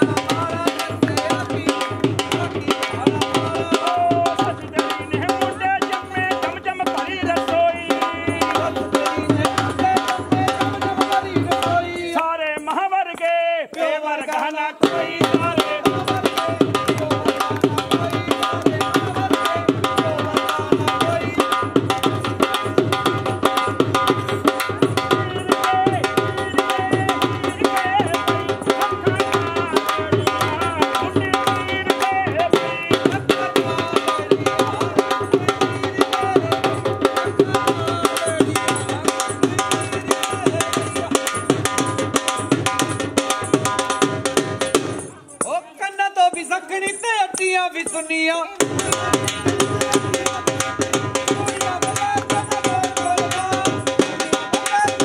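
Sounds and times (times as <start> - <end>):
fast hand-drum rhythm: 0.0 - 55.0.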